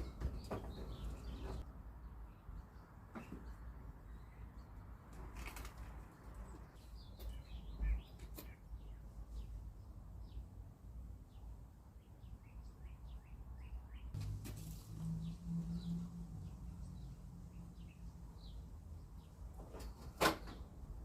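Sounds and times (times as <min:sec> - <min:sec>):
small birds chirping: 0:00.0 - 0:05.5, 0:06.2 - 0:19.9.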